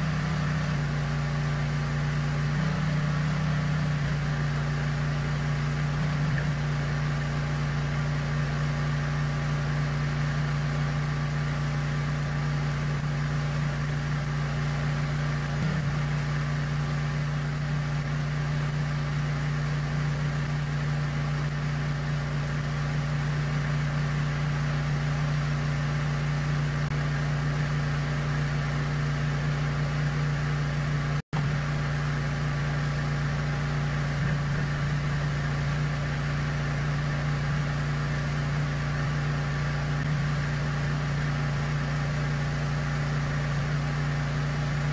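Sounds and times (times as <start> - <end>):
engine idling drone: 0.0 - 44.9.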